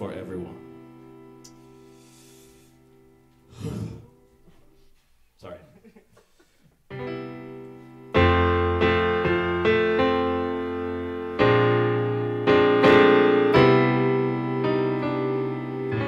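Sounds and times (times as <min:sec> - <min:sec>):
keyboard chords: 0:00.0 - 0:04.6, 0:06.9 - 0:16.0.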